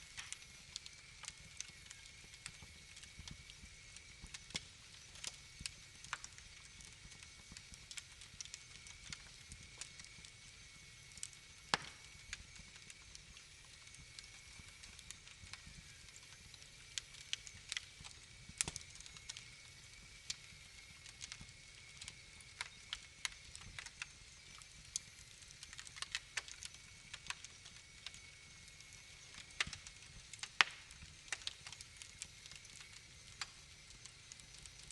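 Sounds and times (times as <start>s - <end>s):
faint steady hiss: 0.0s - 34.9s
wood fire crackling: 0.0s - 34.9s.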